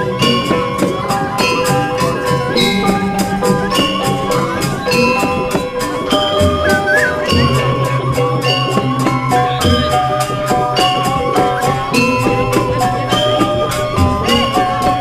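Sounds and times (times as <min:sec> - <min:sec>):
gamelan music: 0:00.0 - 0:15.0
gongs ringing: 0:00.0 - 0:15.0.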